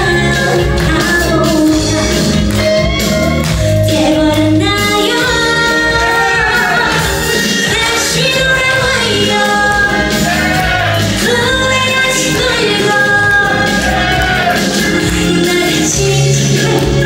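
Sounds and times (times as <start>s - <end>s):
woman singing into microphone: 0.0s - 2.6s, 3.5s - 17.0s.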